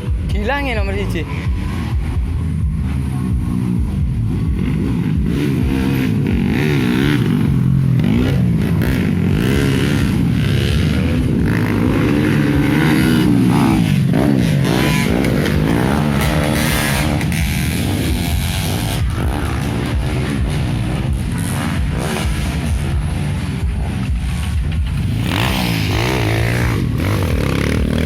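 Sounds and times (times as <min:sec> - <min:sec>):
dirt bikes revving: 0:00.0 - 0:28.0.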